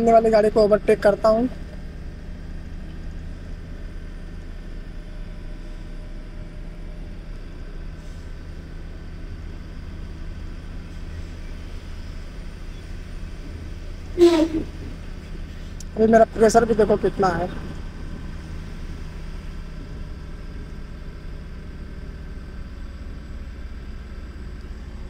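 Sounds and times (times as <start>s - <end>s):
truck diesel engine droning: 0.0s - 25.0s.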